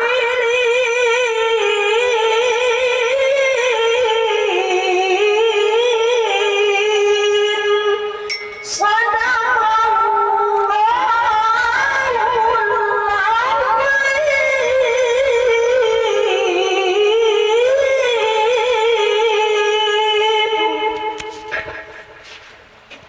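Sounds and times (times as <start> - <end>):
woman chanting into a microphone: 0.0 - 21.8.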